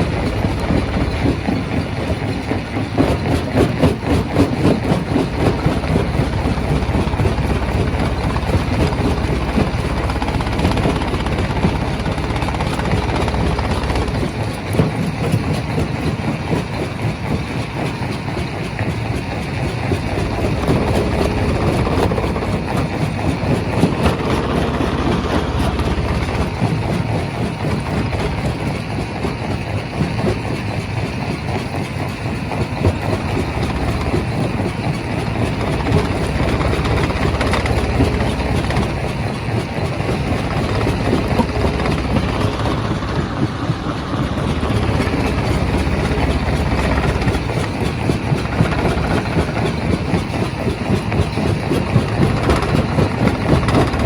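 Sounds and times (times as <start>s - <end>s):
heavy machinery drone: 0.0s - 54.0s.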